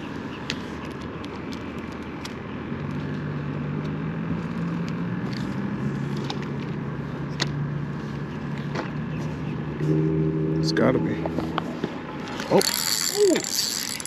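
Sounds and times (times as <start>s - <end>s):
low engine hum: 2.5s - 14.0s.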